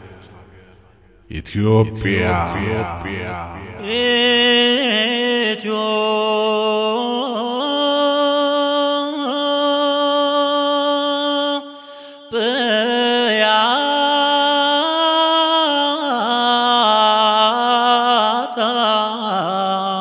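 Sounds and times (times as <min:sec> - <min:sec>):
liturgical chant: 0:00.0 - 0:20.0.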